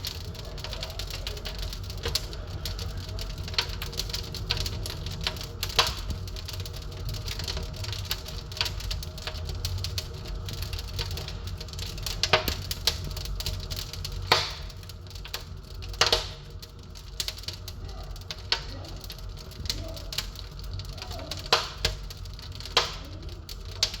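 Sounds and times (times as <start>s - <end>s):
fire crackling: 0.0s - 24.0s
fire popping: 0.0s - 24.0s
low rumble of fire: 0.0s - 24.0s.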